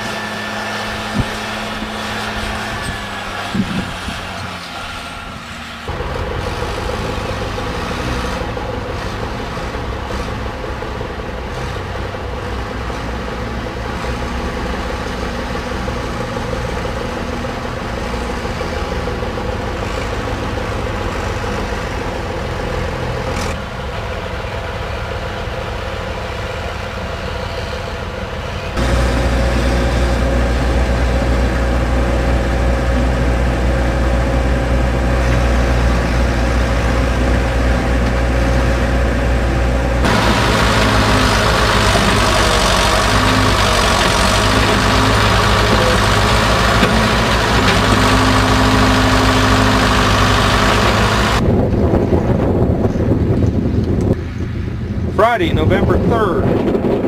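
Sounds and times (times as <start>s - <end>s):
drilling rig engines droning: 0.0s - 57.0s.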